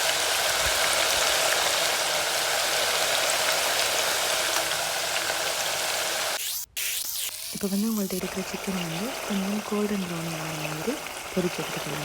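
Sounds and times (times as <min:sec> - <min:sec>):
chicken deep-frying in hot oil: 0:00.0 - 0:12.0.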